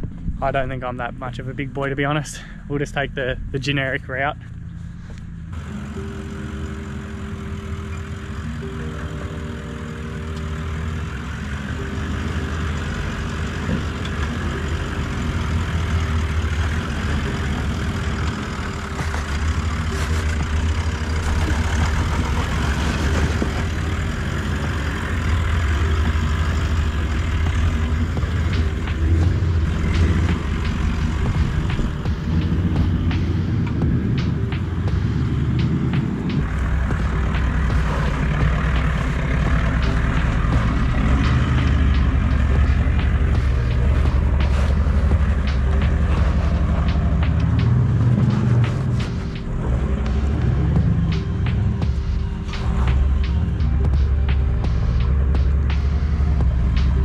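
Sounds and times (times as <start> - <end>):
off-road vehicle engine pulling: 0.0 - 57.0.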